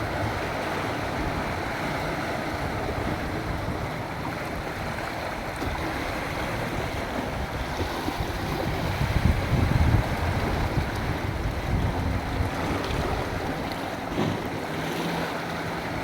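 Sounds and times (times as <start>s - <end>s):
sea surf washing ashore: 0.0s - 16.0s
wind rumble on microphone: 0.0s - 16.0s.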